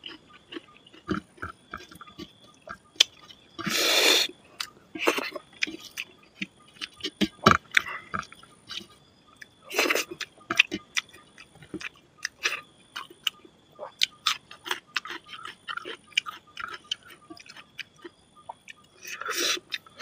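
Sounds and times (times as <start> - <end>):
chewing and lip smacking: 0.0 - 20.0.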